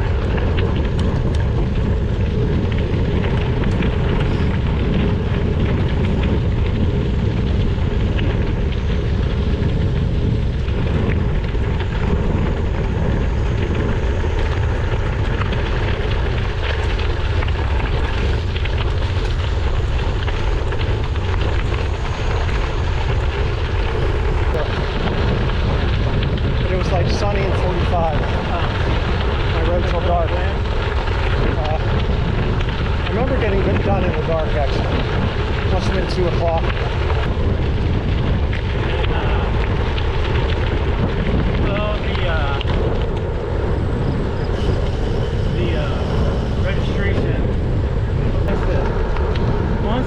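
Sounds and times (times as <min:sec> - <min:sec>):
bike tyres on rough road: 0:00.0 - 0:50.0
wind rumble on microphone: 0:00.0 - 0:50.0.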